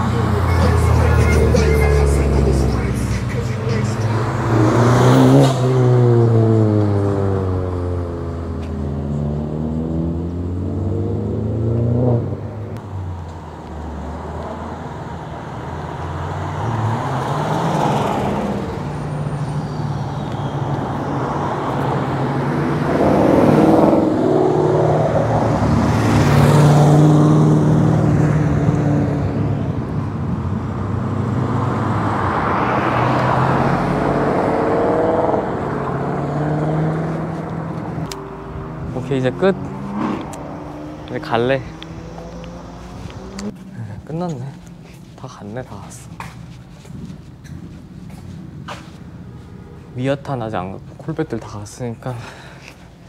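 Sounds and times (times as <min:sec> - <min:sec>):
cars accelerating past: 0:00.0 - 0:53.0.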